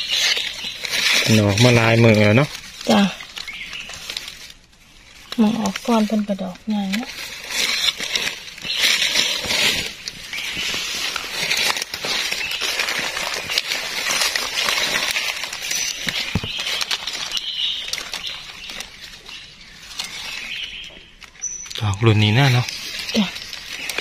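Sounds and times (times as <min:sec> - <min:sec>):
leaves and twigs crackling: 0:00.0 - 0:24.0.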